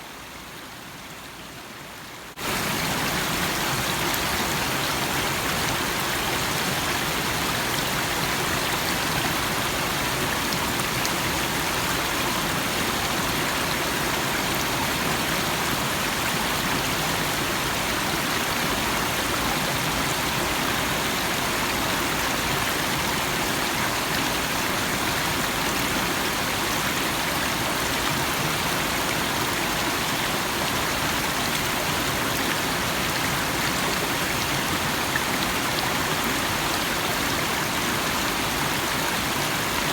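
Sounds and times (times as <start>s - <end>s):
stream burbling over stones: 0.3s - 39.9s.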